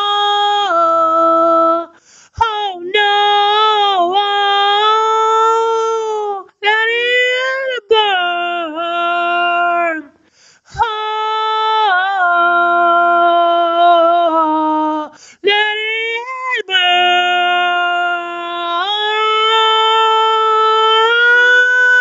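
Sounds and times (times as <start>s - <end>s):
woman singing long held notes: 0.0s - 10.2s, 10.8s - 22.0s.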